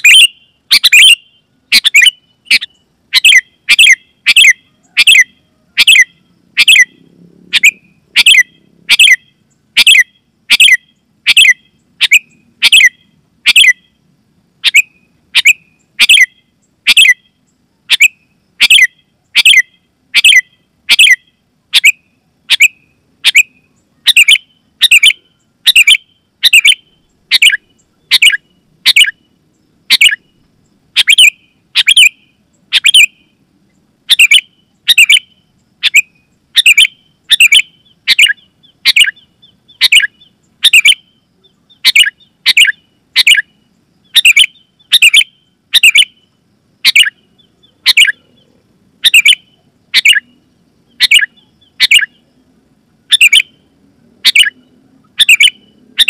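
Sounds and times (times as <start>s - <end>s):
bulbul calling: 0.0s - 14.0s, 14.6s - 52.3s, 53.1s - 56.0s.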